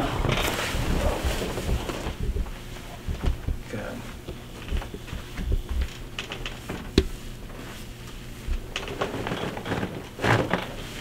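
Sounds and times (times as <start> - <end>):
clothing and padding rustling: 0.0 - 11.0.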